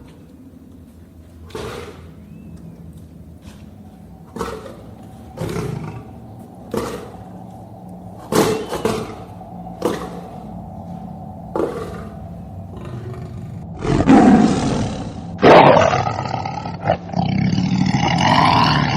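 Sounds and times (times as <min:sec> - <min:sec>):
lion roaring: 0:01.1 - 0:18.9.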